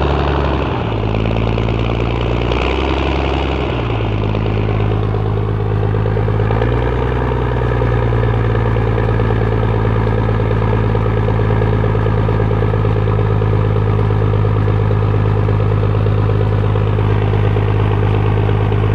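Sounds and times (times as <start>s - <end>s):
truck engine idling: 0.0s - 18.9s.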